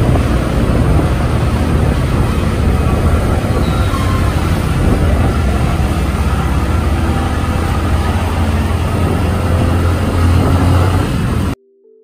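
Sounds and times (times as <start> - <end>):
vehicle driving through tunnel: 0.0 - 11.6.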